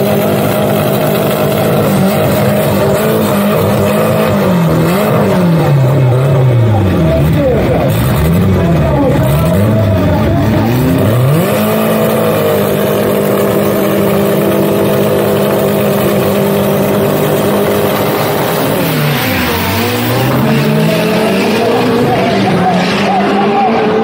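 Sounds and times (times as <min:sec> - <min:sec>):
drag car engine revving: 0:00.0 - 0:24.0.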